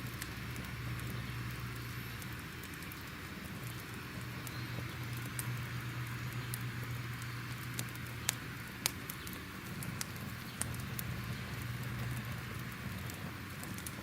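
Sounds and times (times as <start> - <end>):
fire hissing: 0.0 - 14.0
fire popping: 0.0 - 14.0
low steady rumble: 0.0 - 14.0.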